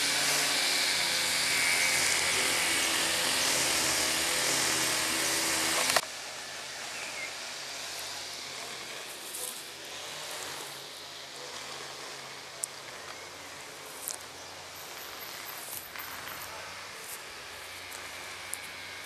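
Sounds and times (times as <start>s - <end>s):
grass cutter running: 0.0s - 19.0s
quiet outdoor background: 0.0s - 19.0s.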